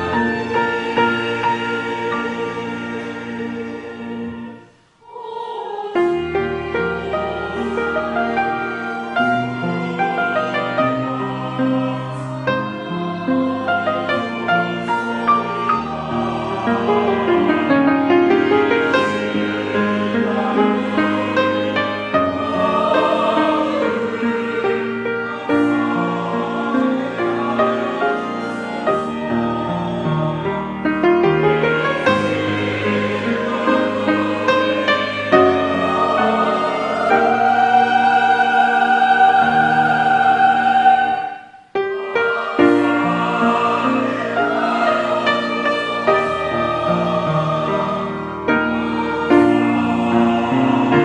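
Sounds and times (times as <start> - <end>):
church choir singing a hymn: 0.0 - 51.0.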